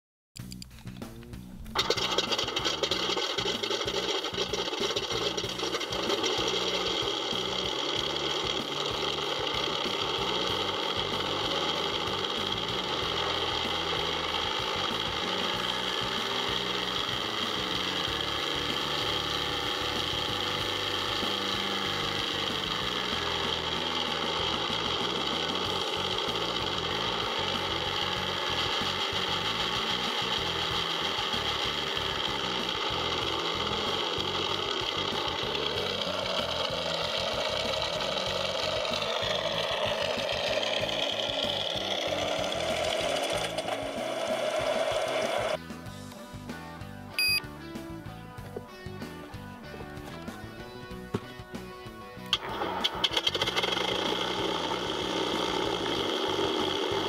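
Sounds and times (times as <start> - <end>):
simulated radial engine idling: 1.4 - 45.8, 47.2 - 57.0.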